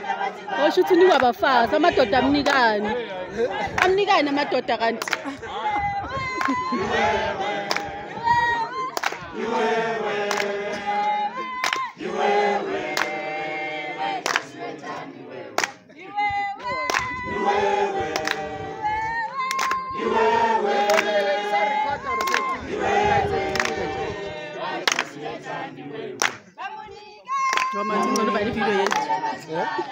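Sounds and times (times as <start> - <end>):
crowd singing together: 0.0 - 29.9.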